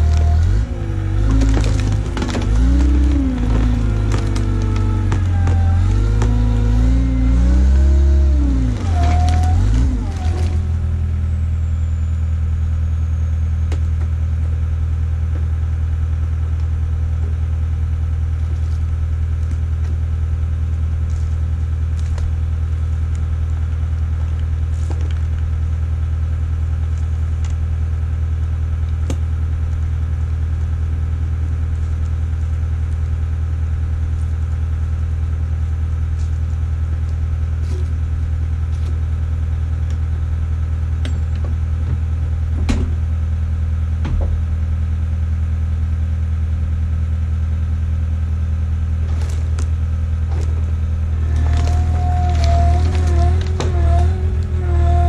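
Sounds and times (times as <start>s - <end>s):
skid steer engine: 0.0s - 55.0s.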